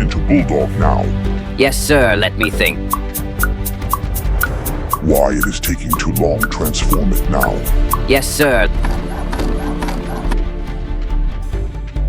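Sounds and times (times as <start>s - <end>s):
background music with steady beat: 0.6s - 12.0s.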